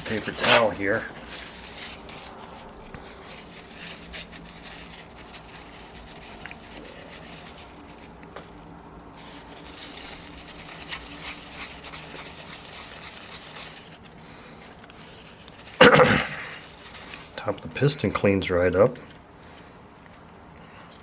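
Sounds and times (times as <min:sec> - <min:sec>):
paper towel scrubbing metal: 0:00.0 - 0:18.0.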